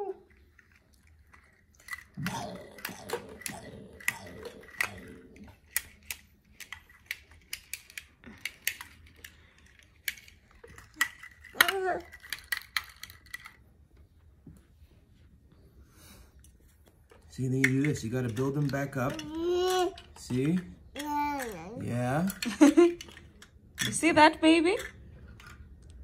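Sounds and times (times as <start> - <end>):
plastic toy pieces clacking: 0.2 - 13.6, 17.5 - 26.0.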